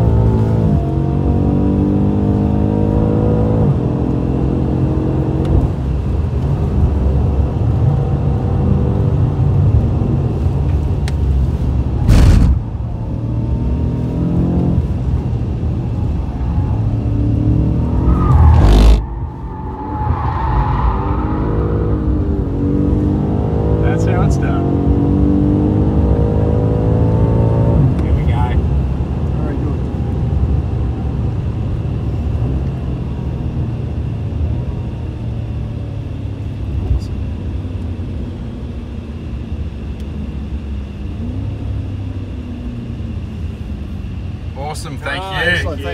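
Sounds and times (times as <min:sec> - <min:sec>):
car engine under hard driving: 0:00.0 - 0:45.9.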